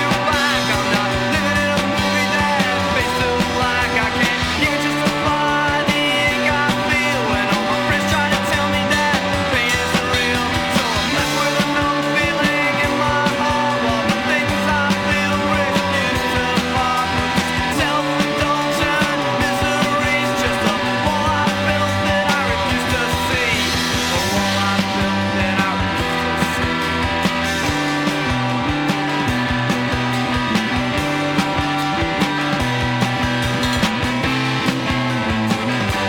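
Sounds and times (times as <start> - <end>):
rock music: 0.0 - 36.0
steady drum beat: 0.0 - 36.0.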